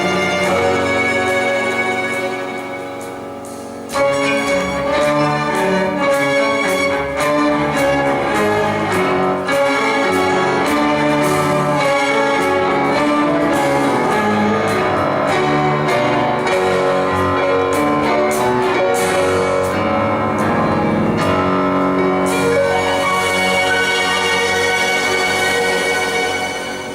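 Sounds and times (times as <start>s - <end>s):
orchestra strings and brass: 0.0s - 26.9s
piano: 0.0s - 26.9s.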